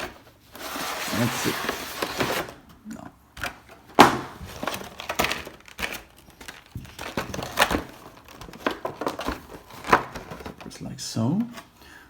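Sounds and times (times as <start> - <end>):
packaging crinkling and rustling: 0.0 - 2.6, 3.4 - 11.7.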